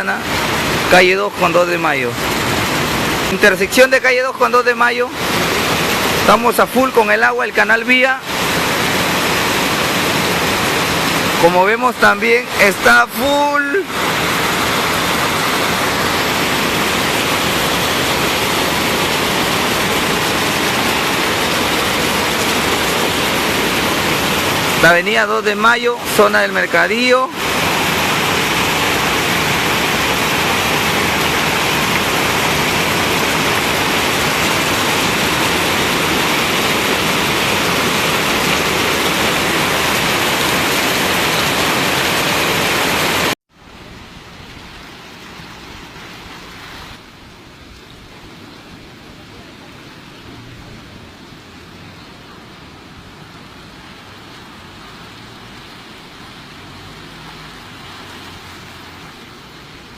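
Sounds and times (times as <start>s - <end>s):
running floodwater: 0.0s - 59.9s
torrential rain hissing: 0.0s - 59.9s.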